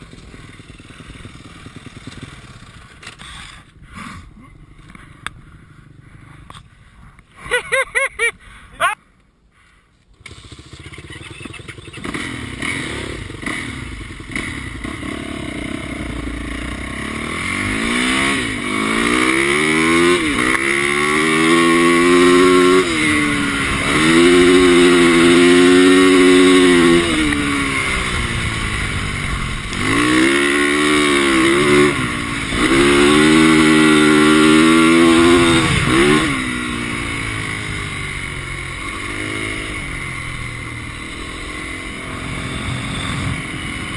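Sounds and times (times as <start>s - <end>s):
dirt bike engine revving: 0.0s - 3.8s, 10.1s - 43.9s.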